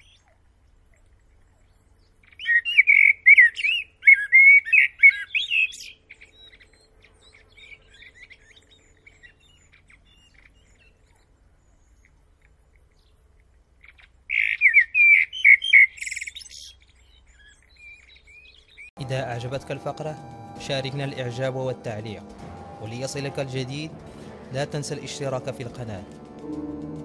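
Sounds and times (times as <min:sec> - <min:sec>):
blackbird singing: 0:00.0 - 0:26.1.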